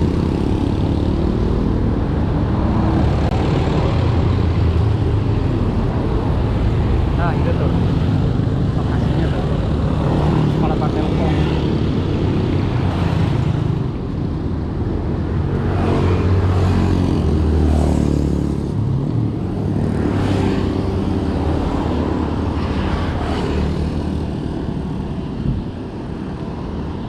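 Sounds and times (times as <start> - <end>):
vehicle engines running: 0.0 - 26.1
traffic passing: 0.0 - 27.0.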